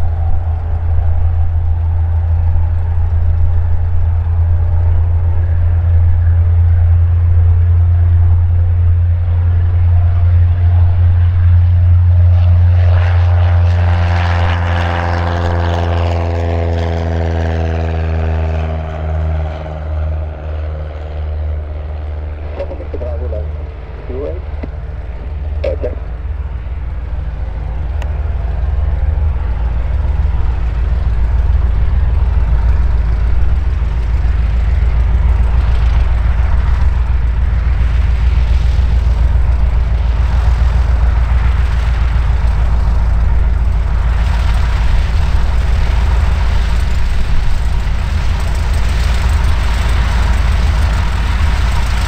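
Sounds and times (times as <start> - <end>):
light aircraft engine and propeller: 0.0 - 52.0.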